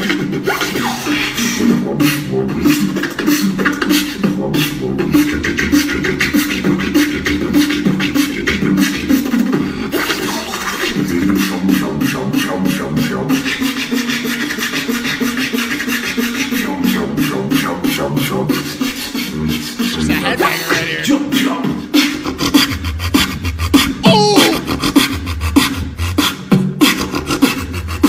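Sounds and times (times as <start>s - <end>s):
person beatboxing: 0.0s - 28.0s.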